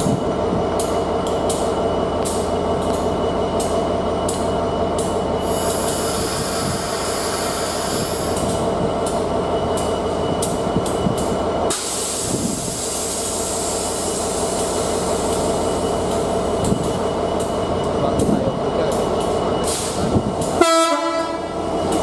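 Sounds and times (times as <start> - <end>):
diesel locomotive idling: 0.0 - 22.0.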